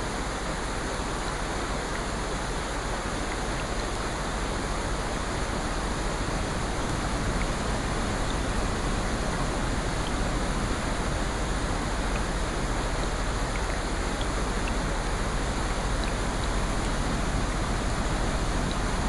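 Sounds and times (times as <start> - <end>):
steady rain: 0.0 - 19.0
raindrops ticking: 1.2 - 19.0.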